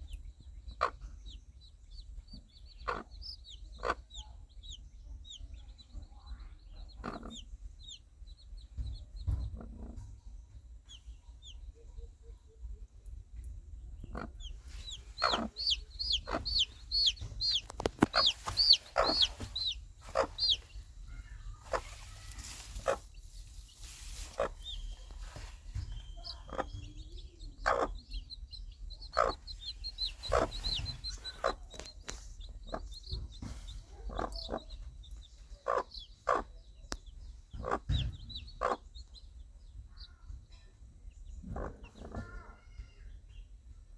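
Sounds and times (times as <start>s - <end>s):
hen clucking: 0.0s - 10.2s, 13.4s - 43.2s
chicks peeping: 0.0s - 43.9s.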